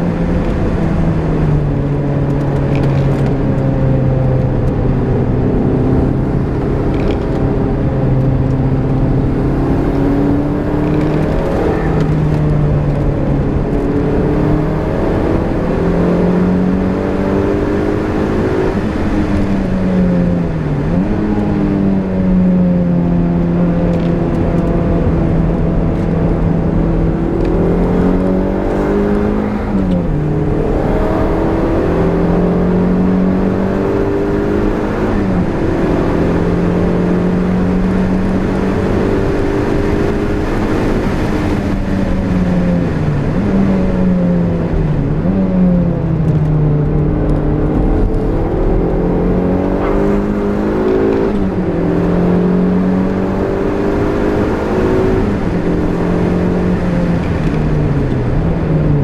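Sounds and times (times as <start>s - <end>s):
car engine under hard driving: 0.0s - 59.0s.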